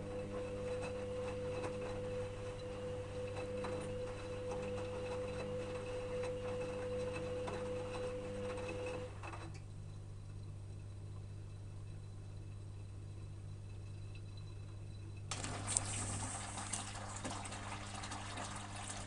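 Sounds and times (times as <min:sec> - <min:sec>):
washing machine whine: 0:00.0 - 0:19.0.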